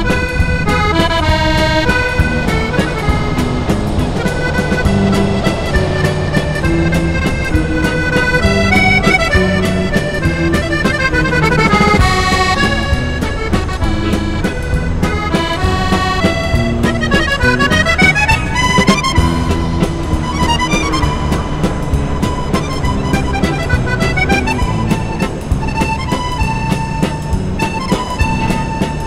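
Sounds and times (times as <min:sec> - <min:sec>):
accordion playing lively tune: 0:00.0 - 0:29.0.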